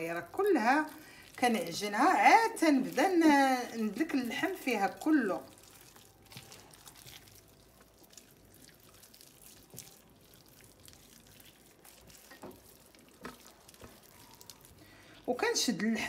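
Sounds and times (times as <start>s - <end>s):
hands squelching paste into meat: 0.2s - 15.3s.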